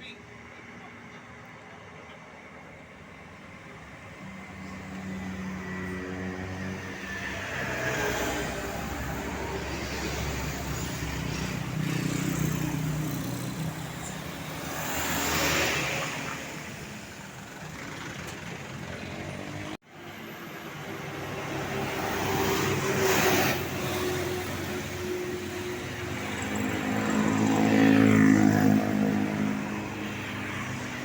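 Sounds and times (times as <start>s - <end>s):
steady traffic engine hum: 0.0s - 31.0s
vehicles passing by: 0.0s - 31.0s.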